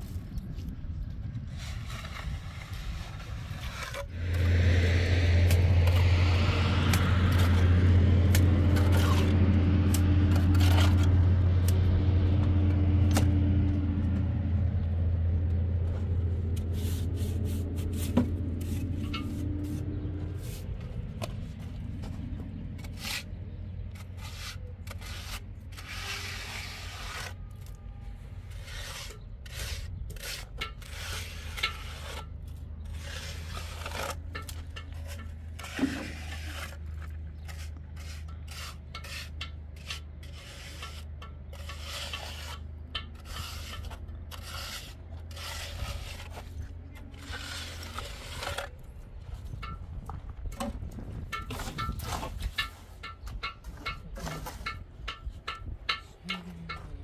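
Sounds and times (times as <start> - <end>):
trowel scraping mortar: 1.5 - 12.4, 16.0 - 49.8, 50.8 - 57.0.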